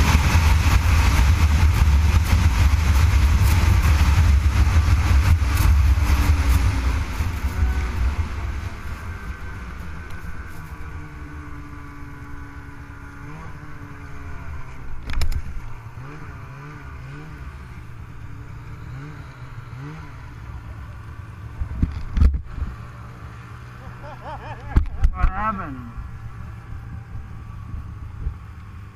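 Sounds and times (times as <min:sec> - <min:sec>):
snowmobile engines droning: 0:00.0 - 0:28.9.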